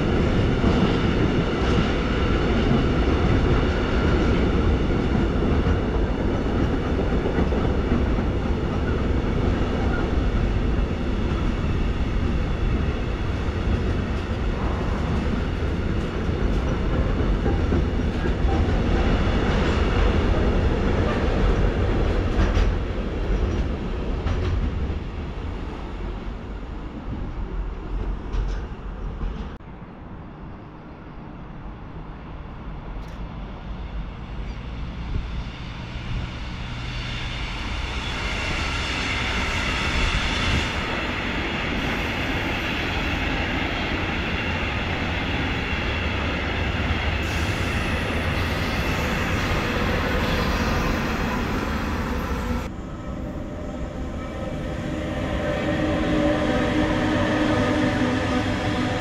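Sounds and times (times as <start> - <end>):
train wheels rumbling on rails: 0.0 - 29.7, 32.5 - 59.0.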